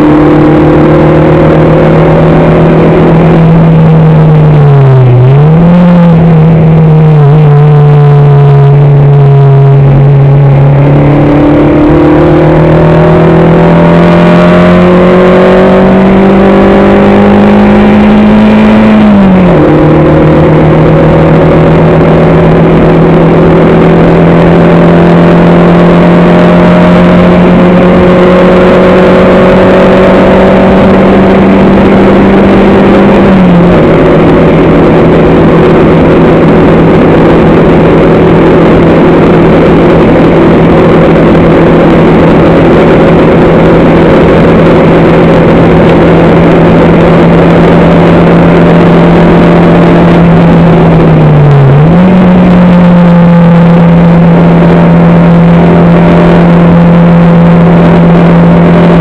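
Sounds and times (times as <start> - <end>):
race car engine on board: 0.0 - 59.0.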